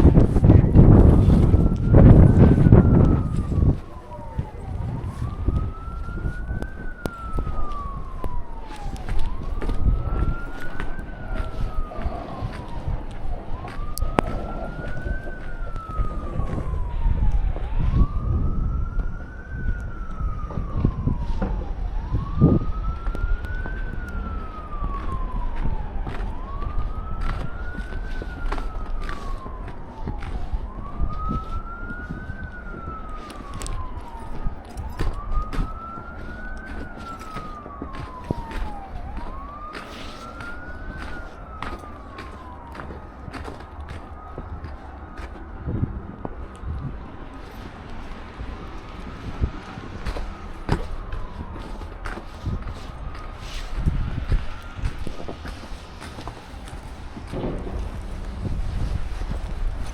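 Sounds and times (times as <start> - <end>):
low rumble: 0.0 - 39.7, 44.0 - 59.9
emergency vehicle siren wailing: 0.0 - 59.9.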